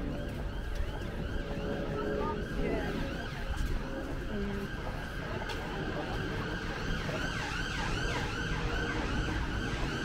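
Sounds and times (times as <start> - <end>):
siren yelping: 0.0 - 10.0
street traffic: 0.0 - 10.0.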